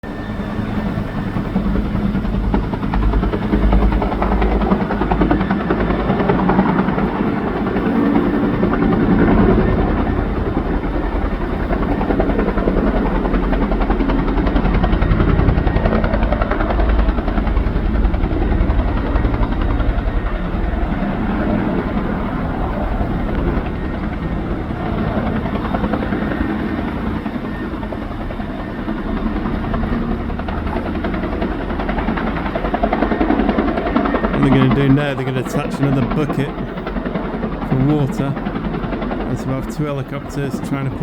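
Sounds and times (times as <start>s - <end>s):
helicopter rotor chopping: 0.0s - 41.0s.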